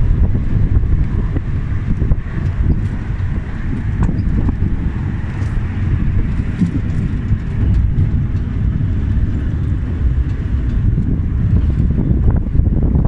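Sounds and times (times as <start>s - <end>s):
tram low rumble: 0.0s - 13.0s.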